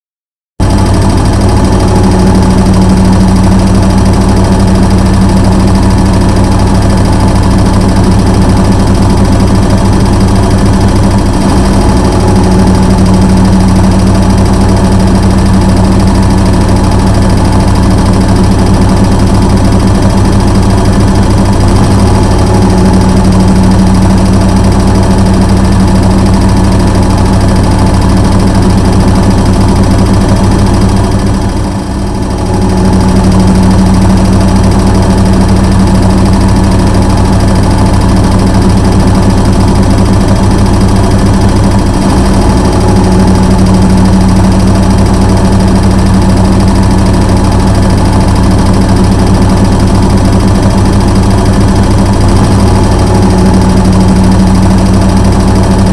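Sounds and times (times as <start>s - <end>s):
washing machine humming: 0.6s - 55.9s.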